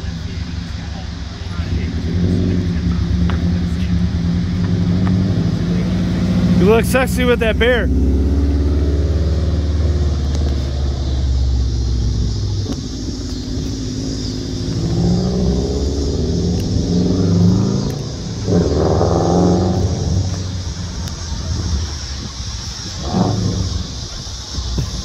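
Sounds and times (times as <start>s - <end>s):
car exhaust deep rumble: 0.0s - 25.0s.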